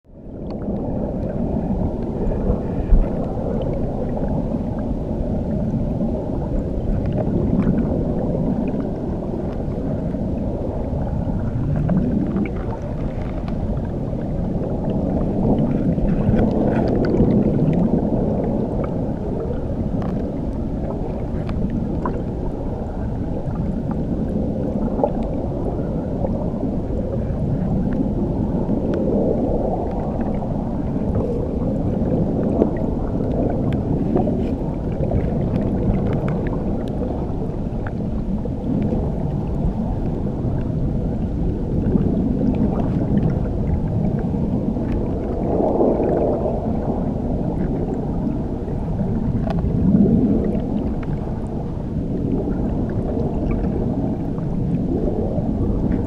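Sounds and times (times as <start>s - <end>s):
underwater waterfall rush: 0.1s - 56.0s.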